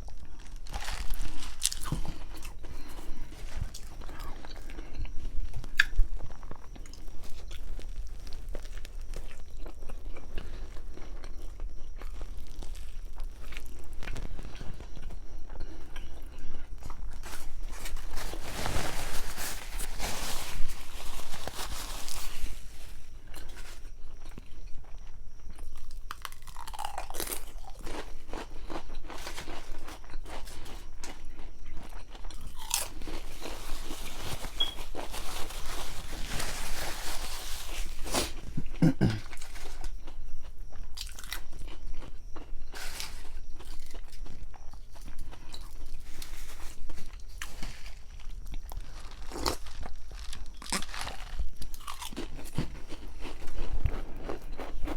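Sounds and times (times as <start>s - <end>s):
person chewing sandwich: 0.0s - 54.9s.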